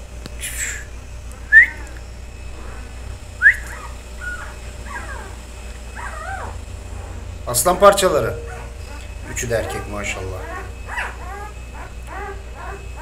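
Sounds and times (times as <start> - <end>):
puppies squealing and whimpering: 1.4 - 13.0.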